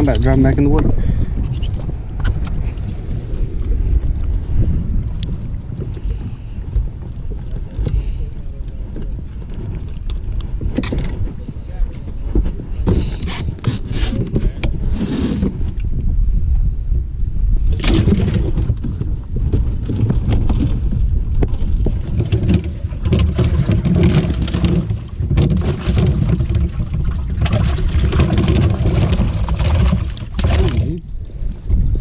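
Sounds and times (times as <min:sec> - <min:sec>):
boat engine rumble: 0:00.0 - 0:32.0
hull and water rushing: 0:00.0 - 0:32.0.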